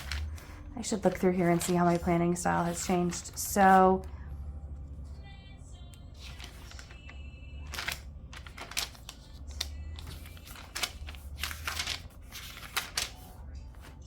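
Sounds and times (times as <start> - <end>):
planner pages turning: 0.0 - 4.1, 6.1 - 14.0.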